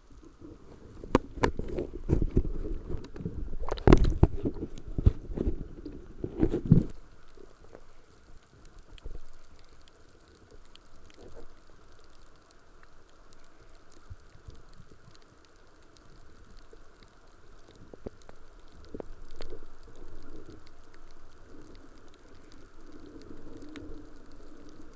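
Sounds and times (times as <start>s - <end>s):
underwater gurgling and rushing: 0.0s - 24.9s
steady hiss: 4.4s - 24.9s.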